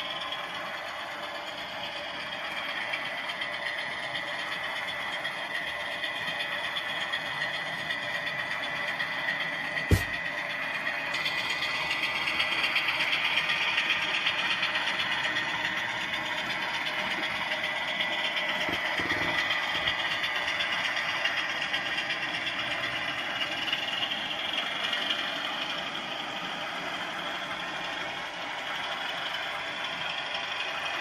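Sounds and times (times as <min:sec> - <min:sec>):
diesel engine sound from small speaker: 0:00.0 - 0:31.0.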